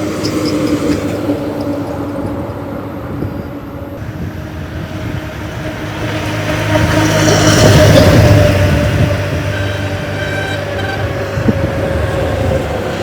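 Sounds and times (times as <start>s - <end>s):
heavy diesel engine drone: 0.0s - 13.0s.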